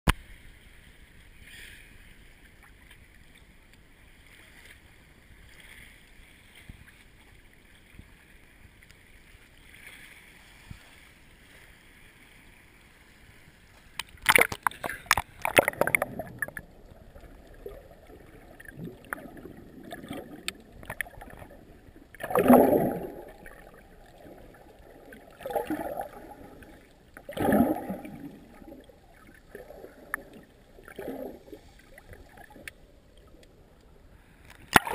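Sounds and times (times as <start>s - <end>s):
water splashing and crackling: 0.1s - 34.9s
faint wash of water: 0.2s - 34.9s.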